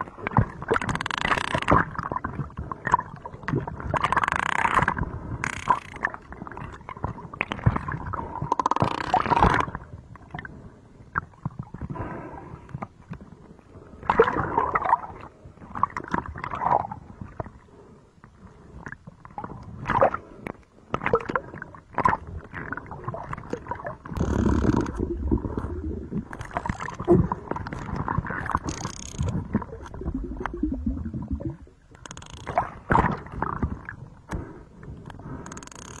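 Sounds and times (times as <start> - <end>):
sea water splashing and gurgling: 0.0 - 36.0.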